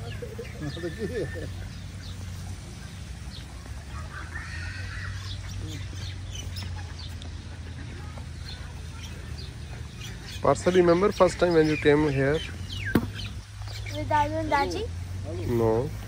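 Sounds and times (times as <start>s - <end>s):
bird calls and clucks: 0.0s - 14.8s.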